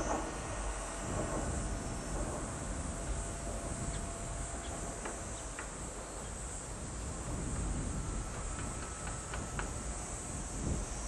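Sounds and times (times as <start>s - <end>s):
insect chorus buzzing: 0.0s - 11.0s
low steady rumble: 0.0s - 11.0s.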